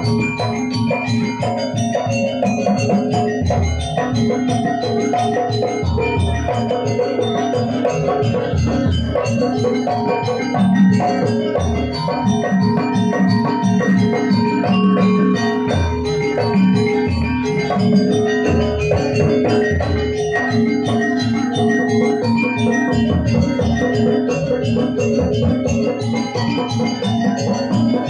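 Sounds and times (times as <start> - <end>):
metallophones playing melody: 0.0 - 28.0.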